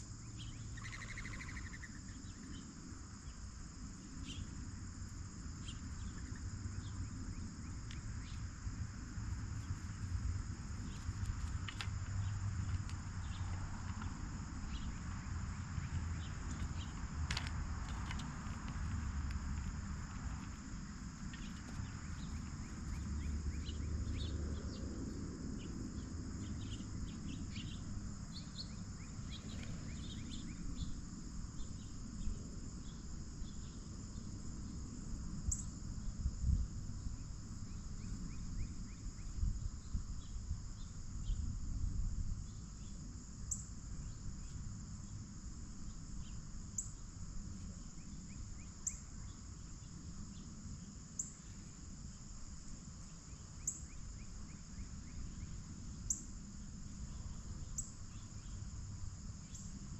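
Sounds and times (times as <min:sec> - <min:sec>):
insect chorus droning: 0:00.0 - 0:59.9.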